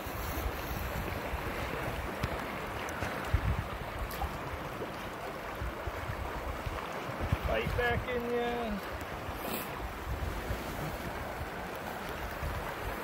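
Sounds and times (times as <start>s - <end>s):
moving water: 0.0s - 13.0s
wind rumbling on microphone: 0.0s - 13.0s.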